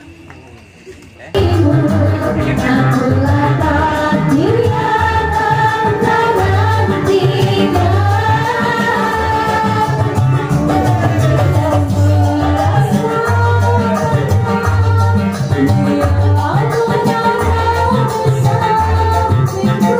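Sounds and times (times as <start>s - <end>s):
amplified band music: 1.4s - 19.9s
heavy pulsing bass line: 1.4s - 19.9s
women singing into microphones: 1.4s - 19.9s.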